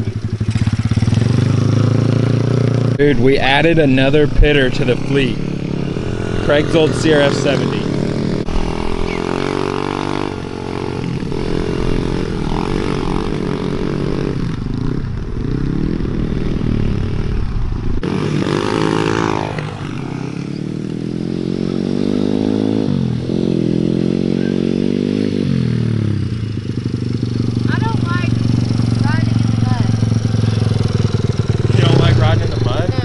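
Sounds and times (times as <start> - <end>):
pit bike engine revving: 0.0 - 33.0.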